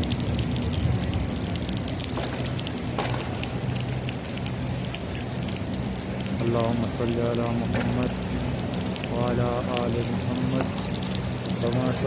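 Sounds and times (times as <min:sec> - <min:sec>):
light rain dripping: 0:00.0 - 0:12.0
low hum: 0:00.0 - 0:12.0.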